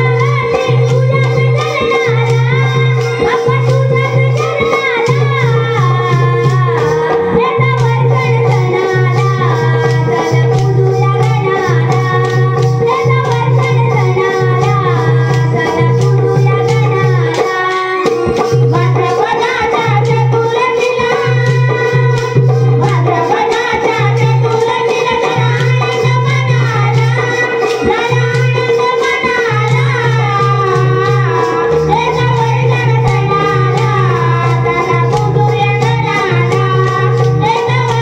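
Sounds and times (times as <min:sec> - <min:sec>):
held drone: 0:00.0 - 0:38.0
person singing wavering melody: 0:00.0 - 0:38.0.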